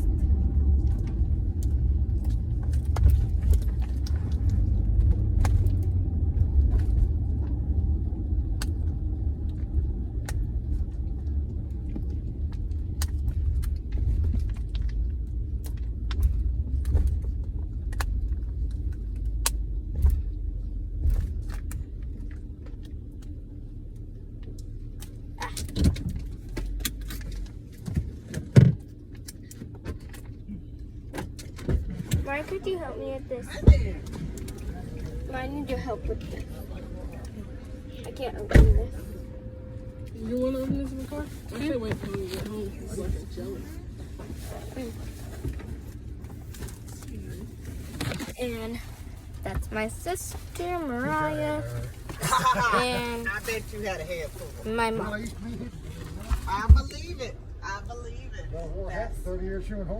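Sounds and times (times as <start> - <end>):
car road rumble inside cabin: 0.0 - 59.9.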